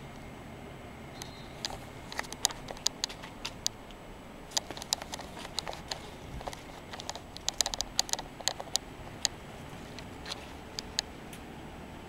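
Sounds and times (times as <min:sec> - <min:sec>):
air conditioner fan noise: 0:00.0 - 0:12.0
sharp clicks and crackles: 0:01.2 - 0:11.5.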